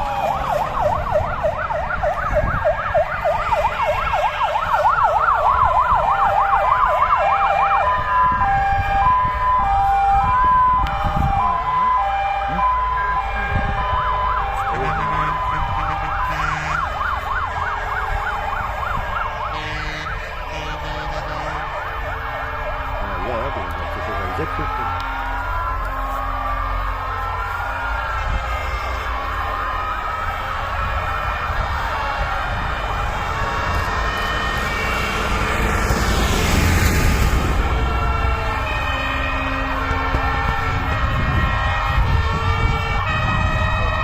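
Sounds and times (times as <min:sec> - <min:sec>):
fire engine sirens wailing: 0:00.0 - 0:44.0
truck engines rumbling: 0:00.0 - 0:44.0
two-tone hi-lo siren: 0:00.0 - 0:44.0.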